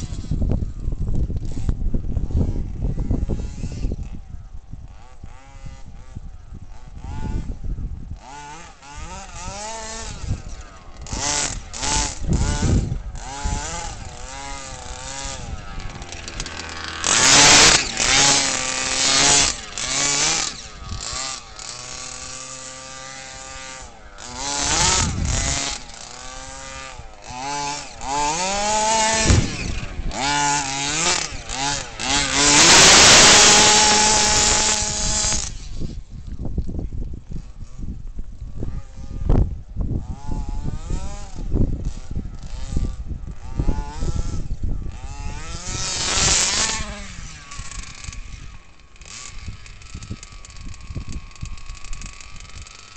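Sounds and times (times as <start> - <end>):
two-stroke engine revving: 0.0 - 0.4, 1.4 - 36.4, 38.5 - 52.9.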